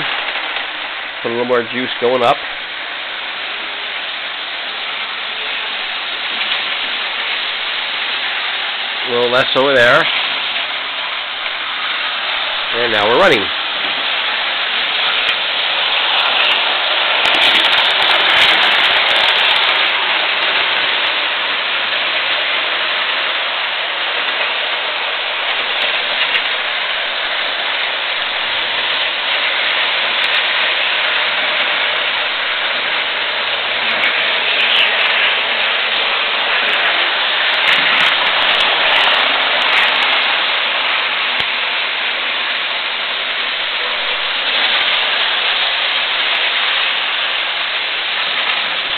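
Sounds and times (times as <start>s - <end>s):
model train whirring rattle: 0.0s - 48.9s.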